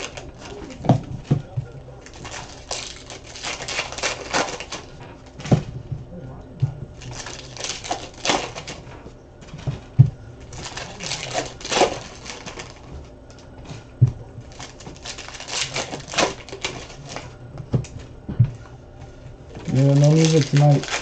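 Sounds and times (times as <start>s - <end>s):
foil wrappers crinkling and tearing: 0.0s - 5.7s, 6.9s - 18.0s, 19.5s - 21.0s.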